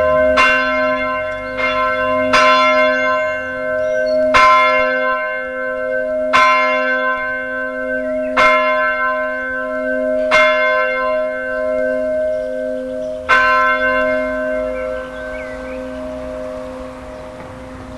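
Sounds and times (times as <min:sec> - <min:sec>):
church bell ringing: 0:00.0 - 0:17.9.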